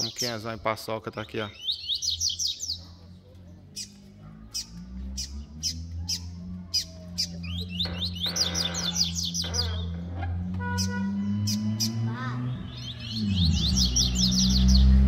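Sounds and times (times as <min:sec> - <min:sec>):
birds chipping and twittering: 0:00.0 - 0:15.0.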